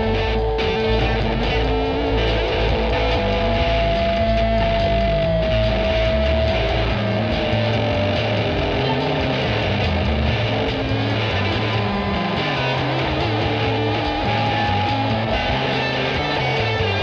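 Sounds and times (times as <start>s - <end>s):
distorted electric guitar: 0.0s - 17.0s
psychedelic rock song: 0.0s - 17.0s
stepping bass line: 0.0s - 17.0s.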